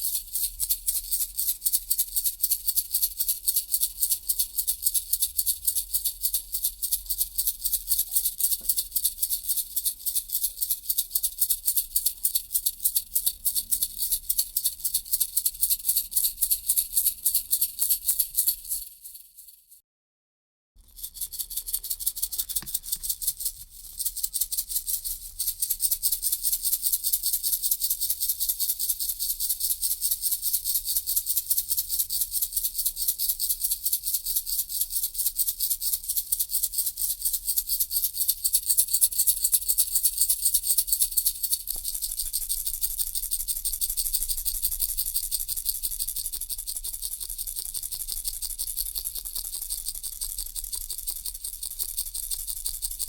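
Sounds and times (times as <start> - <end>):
baby rattle shaken: 0.0 - 19.8, 20.8 - 53.0.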